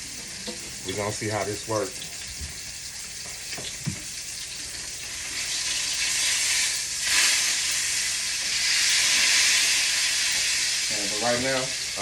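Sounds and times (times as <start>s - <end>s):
beef sizzling in a pan: 0.0s - 12.0s.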